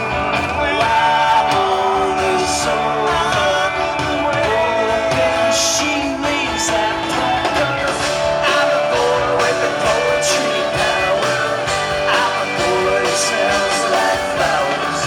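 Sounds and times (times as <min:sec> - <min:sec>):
person singing lead vocal: 0:00.0 - 0:15.0
rock band playing: 0:00.0 - 0:15.0.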